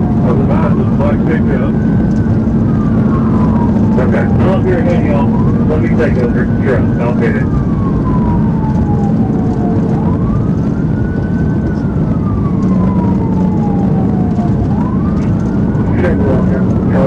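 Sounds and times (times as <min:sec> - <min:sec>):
engine and road rumble: 0:00.0 - 0:17.0
police siren wailing: 0:00.0 - 0:17.0.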